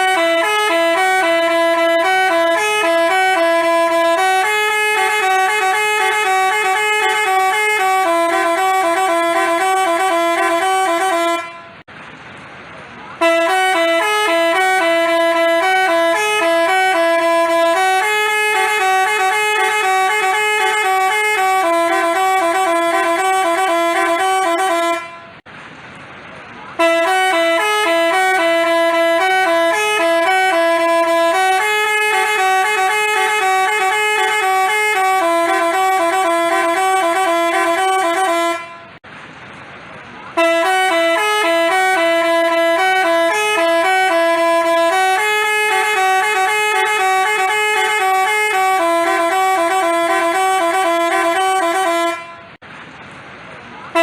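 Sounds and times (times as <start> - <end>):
bus horn playing melody: 0.0 - 11.9, 13.1 - 25.5, 26.7 - 39.0, 40.3 - 52.6.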